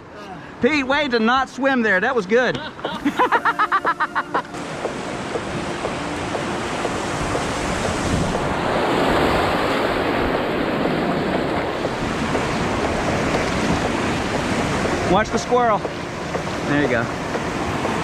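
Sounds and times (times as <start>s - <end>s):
whitewater rapids rushing: 3.0s - 18.0s.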